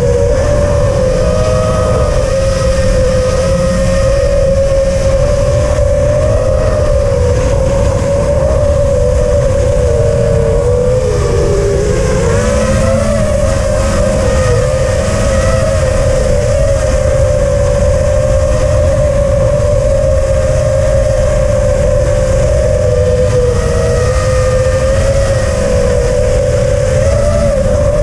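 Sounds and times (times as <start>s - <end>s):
quadcopter motors whining: 0.0s - 28.0s
wind rumble on microphone: 0.0s - 28.0s.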